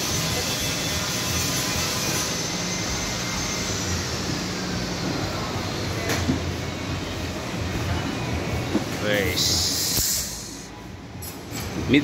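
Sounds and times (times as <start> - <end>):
loud background rumble: 0.0 - 12.0.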